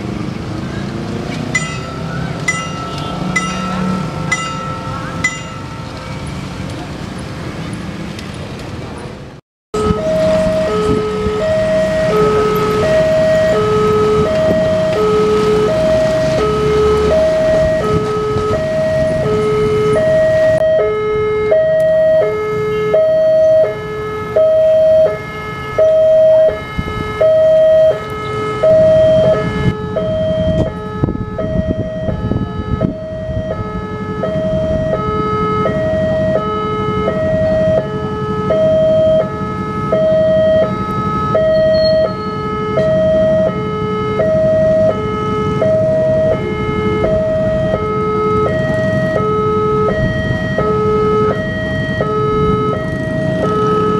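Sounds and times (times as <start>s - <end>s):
locomotive engine rumble: 0.0s - 53.9s
two-tone level crossing alarm: 9.8s - 53.9s.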